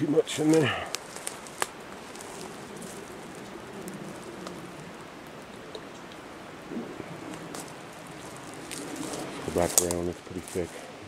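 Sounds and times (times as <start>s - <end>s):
twigs ticking: 0.0s - 11.0s.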